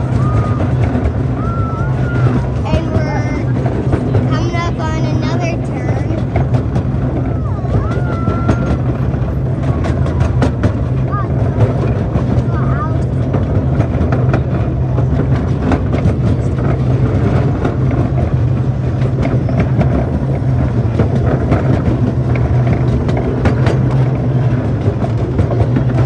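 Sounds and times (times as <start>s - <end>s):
miniature train rumbling: 0.0s - 26.0s
wheels clicking on rails: 0.0s - 26.0s.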